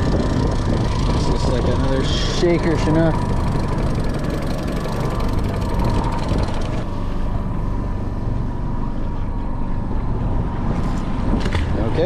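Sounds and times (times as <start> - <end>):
boat motor running: 0.0 - 10.2.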